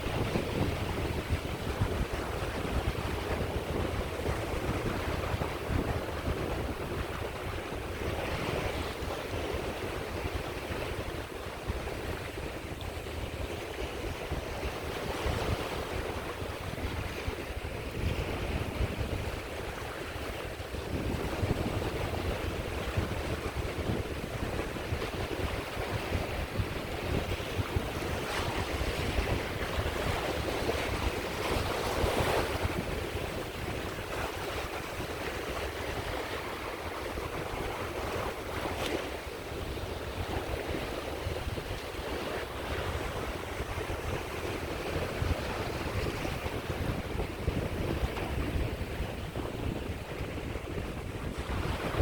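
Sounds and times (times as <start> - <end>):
sea waves washing onto shore: 0.0 - 52.0
wind buffeting microphone: 0.0 - 52.0.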